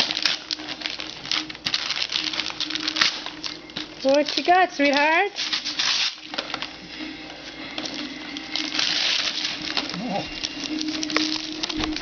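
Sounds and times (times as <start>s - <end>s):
wrapping paper tearing and crinkling: 0.0s - 12.0s.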